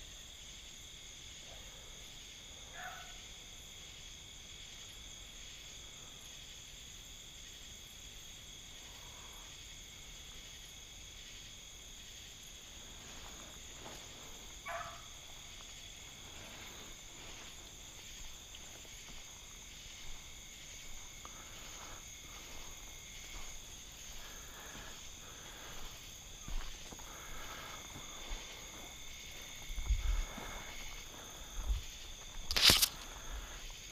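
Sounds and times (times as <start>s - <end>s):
crickets trilling: 0.0s - 33.9s.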